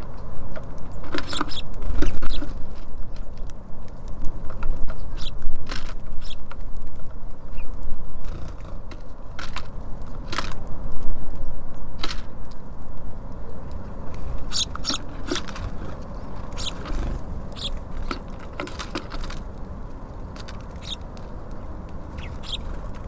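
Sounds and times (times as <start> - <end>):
small songbirds chirping: 0.0 - 9.2, 13.3 - 23.0
low background rumble: 0.0 - 23.0.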